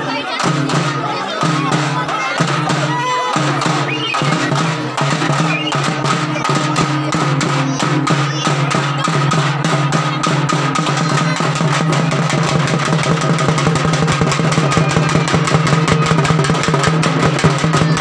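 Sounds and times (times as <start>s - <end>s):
fast drum beat: 0.0s - 18.0s.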